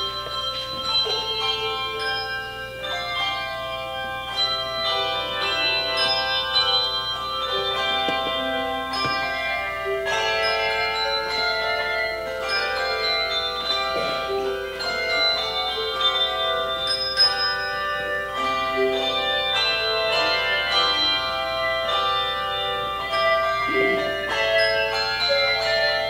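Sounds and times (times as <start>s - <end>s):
handbell choir ringing chords: 0.0s - 26.0s.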